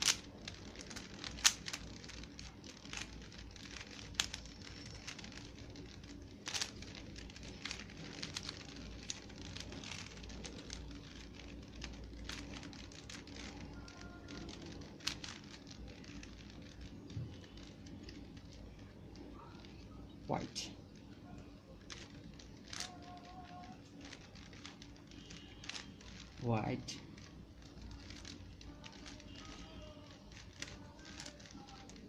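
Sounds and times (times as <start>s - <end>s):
puzzle cube clicking and rattling: 0.0s - 32.0s.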